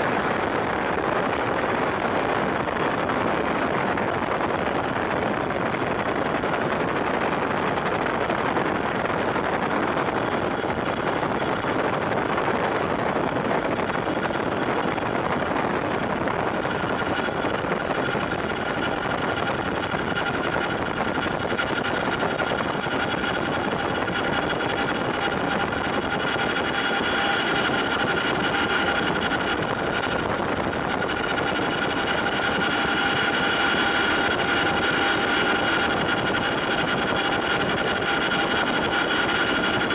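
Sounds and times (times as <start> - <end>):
helicopter engines and rotors din: 0.0 - 39.9
high steady whine: 0.0 - 39.9.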